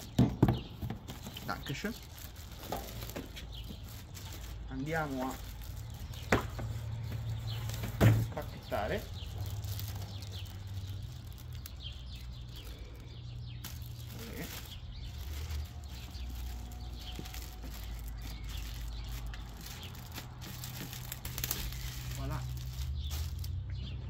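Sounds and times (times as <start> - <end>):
plastic bag crinkling: 0.0 - 23.6.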